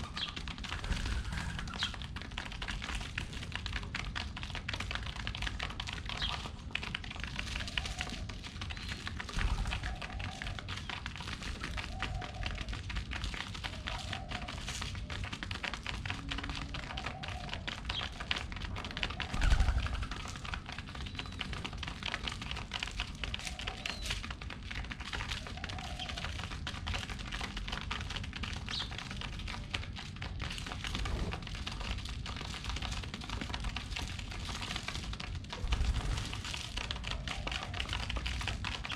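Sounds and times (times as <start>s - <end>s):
pigeons pecking seeds: 0.0s - 38.9s.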